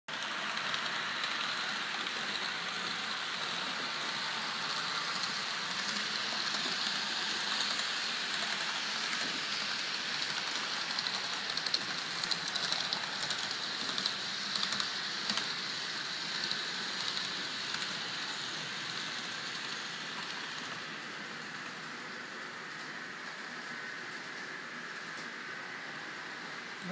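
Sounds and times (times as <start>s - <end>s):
model train wheels whirring: 0.1s - 26.9s.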